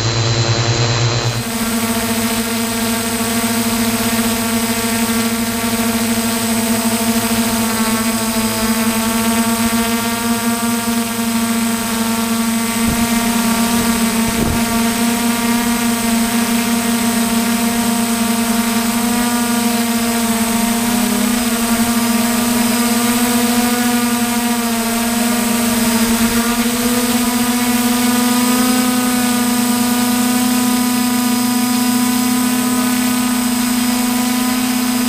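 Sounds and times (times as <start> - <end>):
aircraft motor and propeller hum: 0.0 - 35.0.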